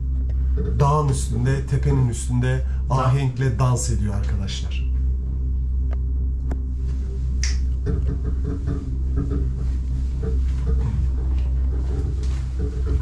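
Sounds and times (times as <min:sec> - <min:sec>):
cable car cabin rumble: 0:00.0 - 0:13.0.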